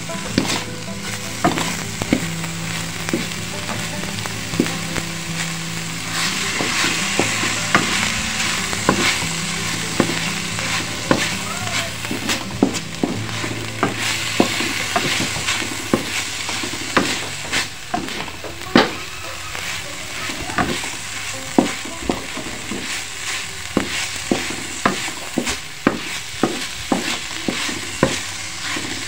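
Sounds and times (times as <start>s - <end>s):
food sizzling in a wok: 0.0s - 29.0s
wooden spatula scraping: 0.0s - 29.0s
spatula clacking against pan: 0.2s - 5.2s, 6.0s - 29.0s.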